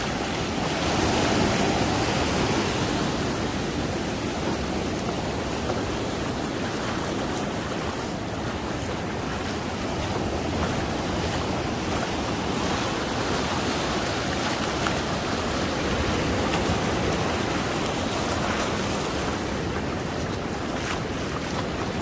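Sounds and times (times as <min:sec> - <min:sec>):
waves breaking on beach: 0:00.0 - 0:22.0.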